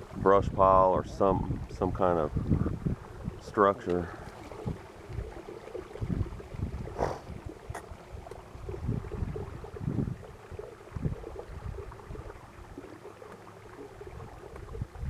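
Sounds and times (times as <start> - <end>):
wind buffeting microphone: 0.0 - 12.5, 13.6 - 15.0
water lapping against hull: 0.0 - 15.0.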